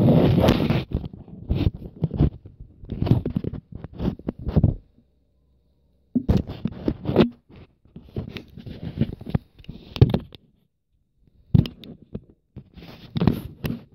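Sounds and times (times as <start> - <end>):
rustling and scraping: 0.0 - 5.1, 6.2 - 10.7, 11.5 - 13.9.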